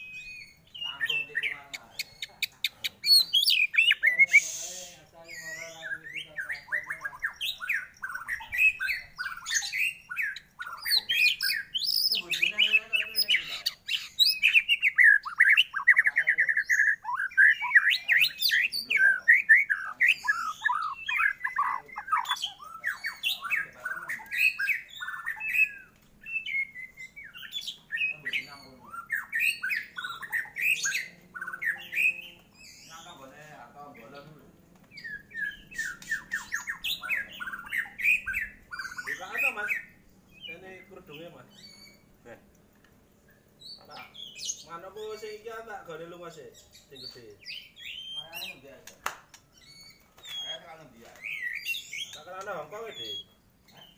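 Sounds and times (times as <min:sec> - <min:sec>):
bird singing whistled phrases: 0:00.0 - 0:33.0, 0:34.9 - 0:40.9, 0:46.8 - 0:48.6, 0:51.2 - 0:53.9.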